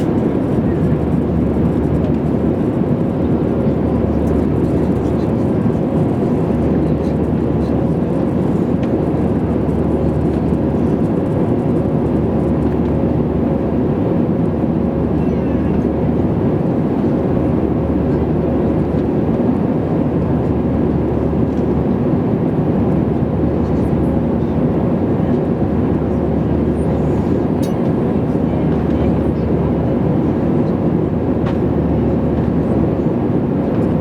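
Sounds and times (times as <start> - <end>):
jet engine and airflow rumble: 0.0 - 34.0.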